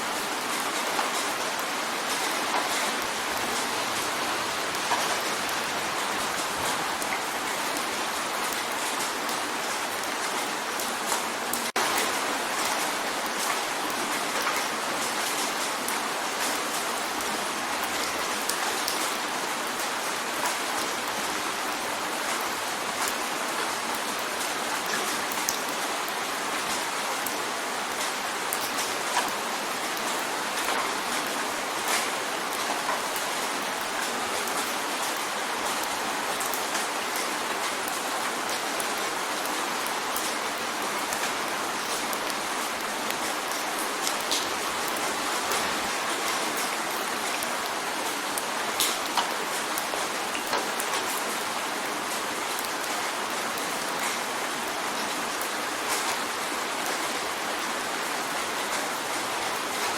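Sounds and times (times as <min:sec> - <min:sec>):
rain drumming on a window: 0:00.0 - 0:59.9.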